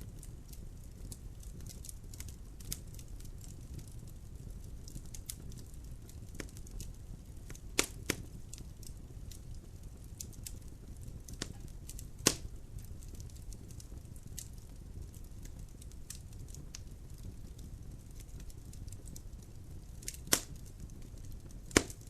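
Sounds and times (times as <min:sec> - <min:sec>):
fire crackles and pops: 0:00.0 - 0:22.0
low rumble of fire: 0:00.0 - 0:22.0.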